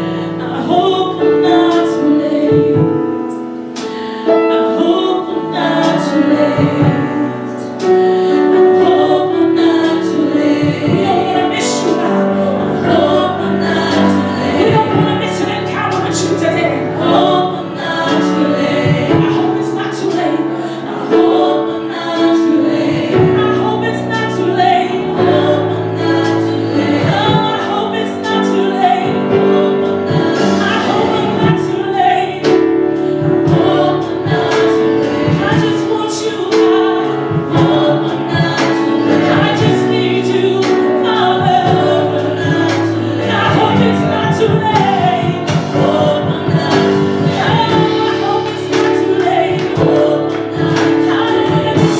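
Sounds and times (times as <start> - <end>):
gospel choir singing: 0.0 - 51.9
live band playing: 0.0 - 51.9.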